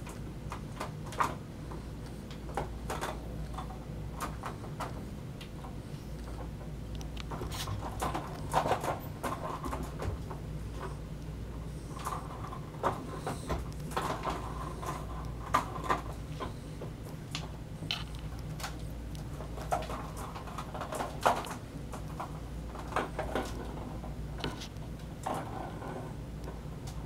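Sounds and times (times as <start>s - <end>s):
kittens clicking and rustling: 0.0s - 25.8s
steady low hum: 0.0s - 27.0s.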